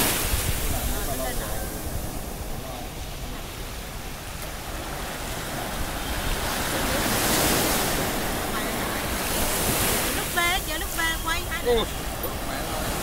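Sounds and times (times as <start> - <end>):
waves breaking on shore: 0.0 - 13.0
wind rumble on microphone: 0.0 - 13.0.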